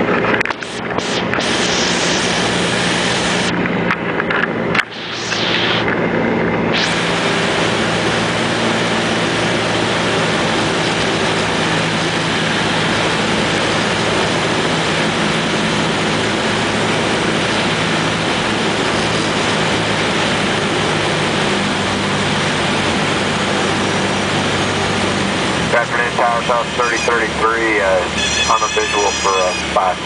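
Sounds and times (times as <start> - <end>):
propeller aircraft engine running: 0.0 - 30.0.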